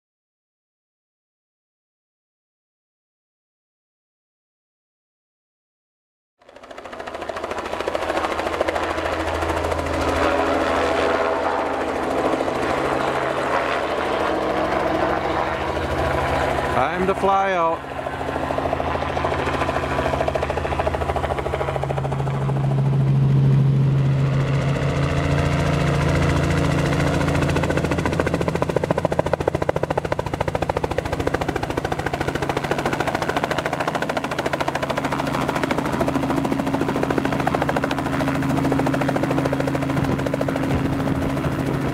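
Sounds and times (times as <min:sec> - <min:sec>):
helicopter engine hum: 0:06.4 - 0:41.9
helicopter rotor beating: 0:06.4 - 0:41.9.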